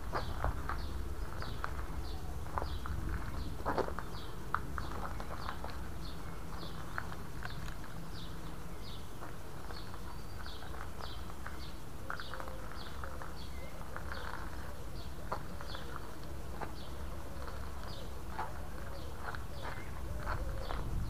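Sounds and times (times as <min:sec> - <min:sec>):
low outdoor rumble: 0:00.0 - 0:21.0
small bird chirping: 0:00.0 - 0:21.0.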